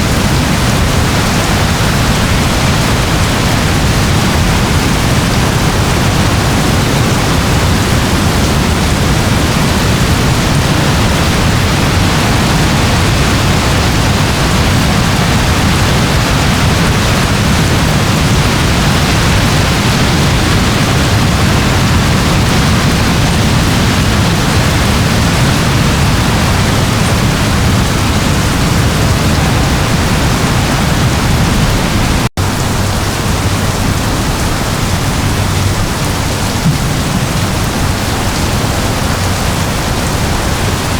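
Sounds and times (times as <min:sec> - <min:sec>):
dense rain hissing: 0:00.0 - 0:40.9.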